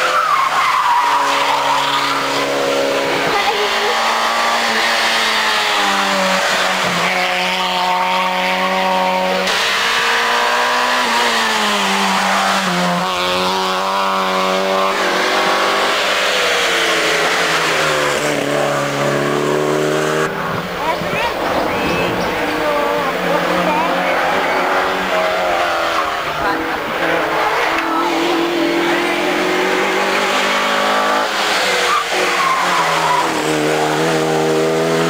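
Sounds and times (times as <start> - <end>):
rally car engines at high revs: 0.0 - 35.0.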